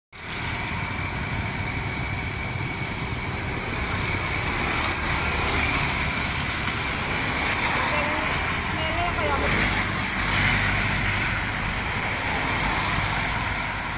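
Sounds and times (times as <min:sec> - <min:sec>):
traffic on wet road: 0:00.2 - 0:13.9.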